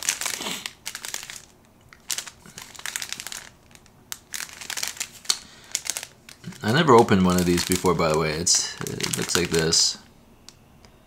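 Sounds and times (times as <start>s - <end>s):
plastic wrapping crinkling: 0.0s - 10.1s.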